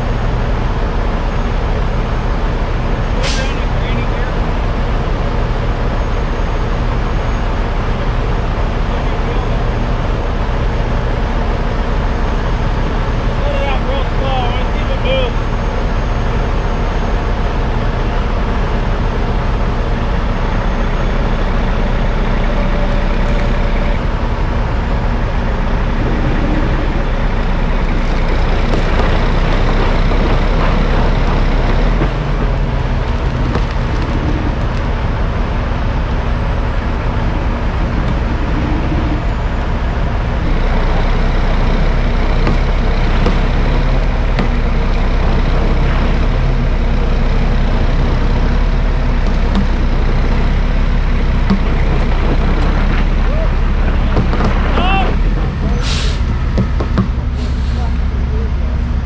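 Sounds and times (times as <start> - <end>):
diesel truck engine droning: 0.0 - 59.0.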